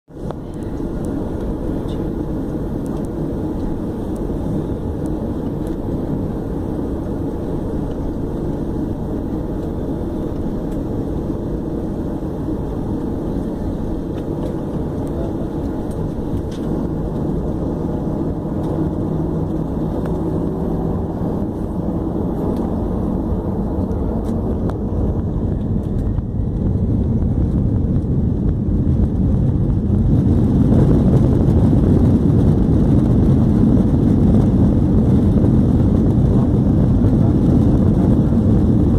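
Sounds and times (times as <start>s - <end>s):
jet engines rumbling: 0.1s - 38.9s.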